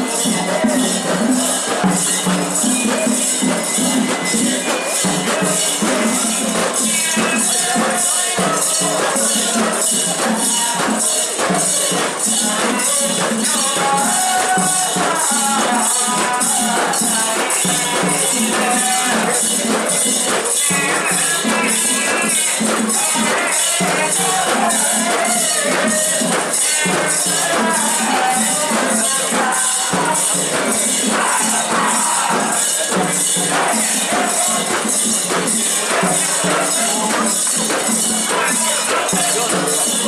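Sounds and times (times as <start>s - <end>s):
many voices: 0.0s - 40.0s
metal rings jingling rhythmically: 0.0s - 40.0s.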